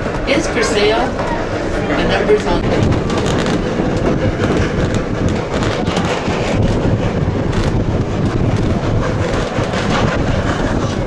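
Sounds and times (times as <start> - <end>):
train rumbling on track: 0.0 - 11.0
wind buffeting microphone: 0.0 - 11.0.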